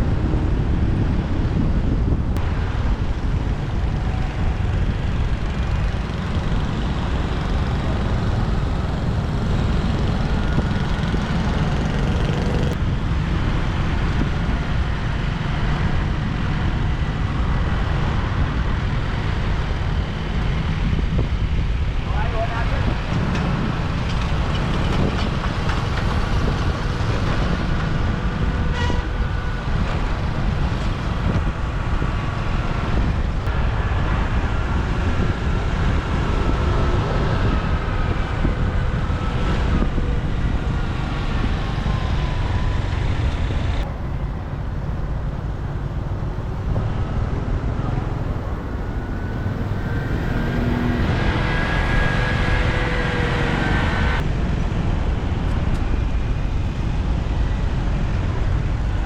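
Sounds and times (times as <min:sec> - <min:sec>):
road and wind rumble: 0:00.0 - 0:59.0.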